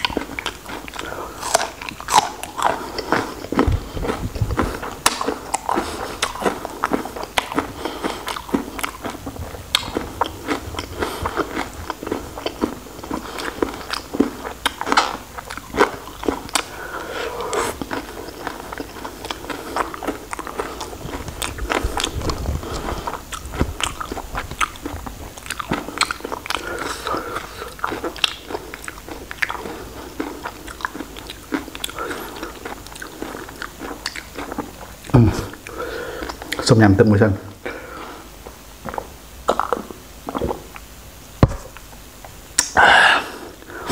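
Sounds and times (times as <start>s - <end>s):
biting and chewing raw shrimp: 0.0s - 36.7s.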